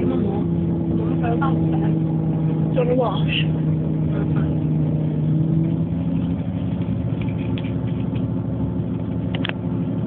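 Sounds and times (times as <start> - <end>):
train engine hum: 0.0 - 10.0
train rumble inside carriage: 0.0 - 10.0.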